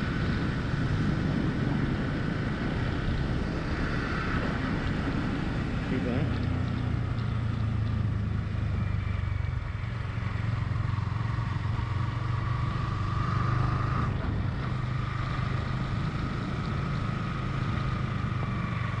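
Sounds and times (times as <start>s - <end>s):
engine whine: 0.0s - 19.0s.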